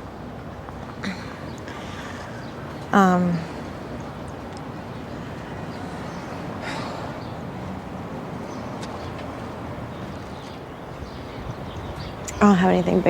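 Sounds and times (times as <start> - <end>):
low traffic hum: 0.0 - 13.0.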